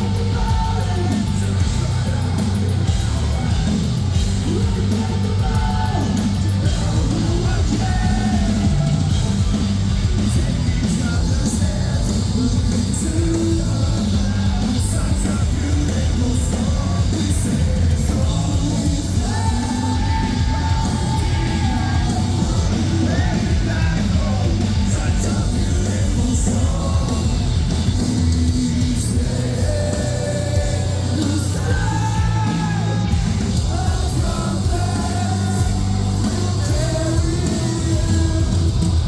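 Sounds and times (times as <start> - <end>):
live metal band playing: 0.0 - 39.0
yelled vocals: 0.0 - 39.0.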